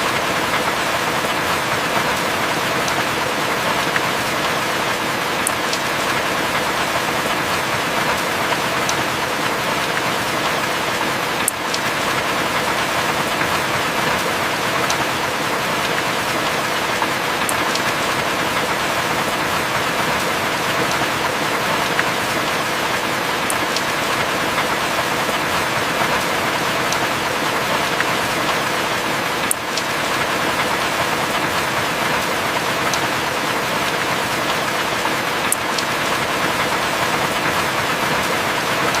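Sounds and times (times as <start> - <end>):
heavy rain: 0.0 - 39.0.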